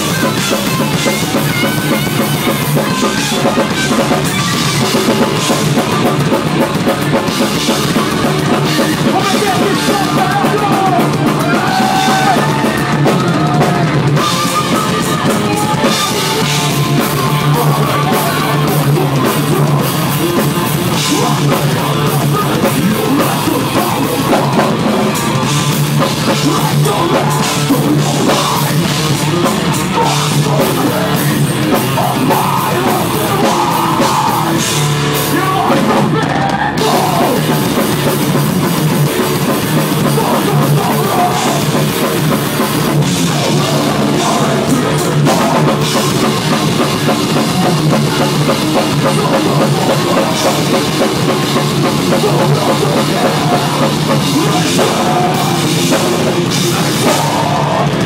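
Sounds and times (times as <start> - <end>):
distorted electric guitar: 0.0 - 58.0
drum kit: 0.0 - 58.0.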